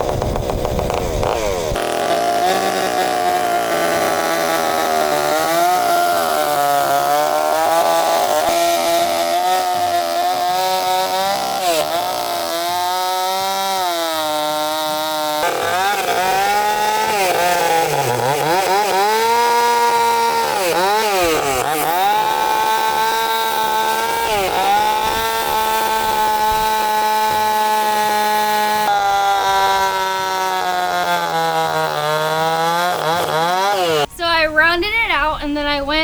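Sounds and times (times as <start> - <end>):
chainsaw cutting wood: 0.0 - 34.2.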